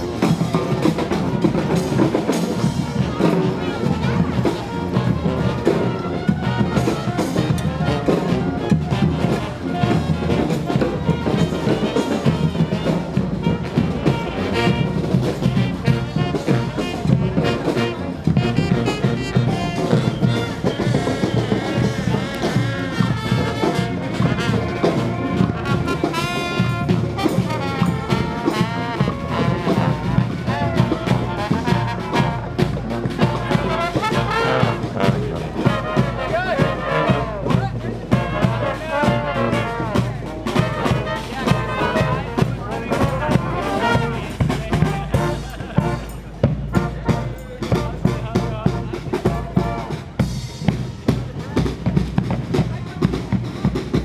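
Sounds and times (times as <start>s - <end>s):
drum strokes: 0.0s - 54.0s
trumpets and horns playing: 0.0s - 54.0s.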